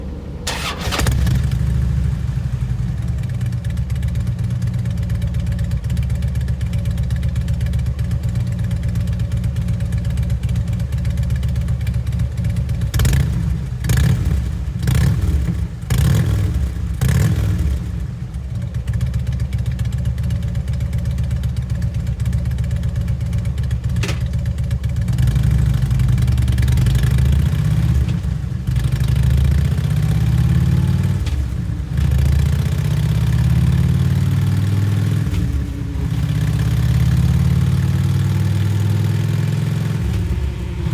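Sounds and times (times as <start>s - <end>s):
motorcycle engine idling: 0.5s - 40.9s.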